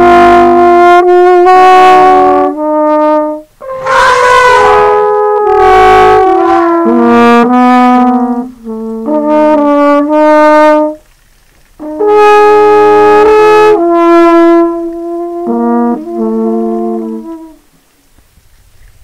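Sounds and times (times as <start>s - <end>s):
slow held horn notes: 0.0s - 11.0s, 11.8s - 17.7s.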